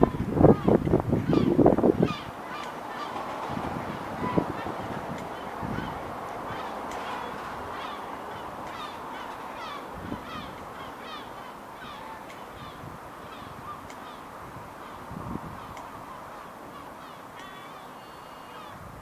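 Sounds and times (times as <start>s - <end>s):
waterfowl honking: 0.0s - 18.8s
steady background hiss: 0.0s - 19.0s.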